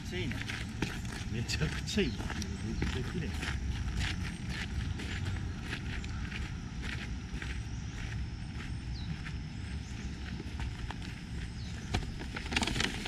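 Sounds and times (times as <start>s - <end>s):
footsteps on garden path: 0.0s - 13.0s.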